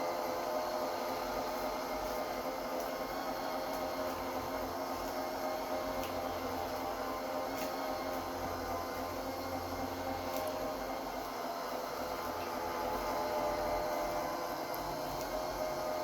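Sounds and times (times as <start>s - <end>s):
wet mop motor humming: 0.0s - 16.0s.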